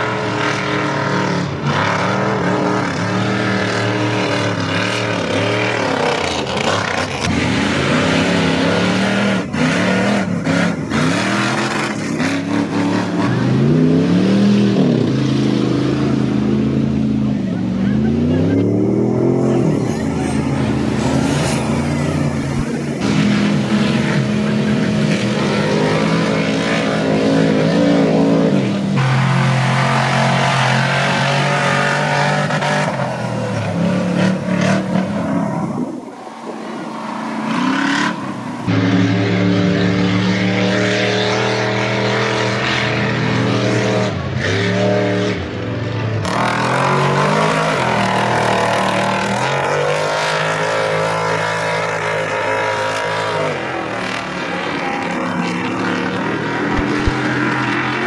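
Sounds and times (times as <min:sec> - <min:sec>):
truck engines revving: 0:00.0 - 0:58.0.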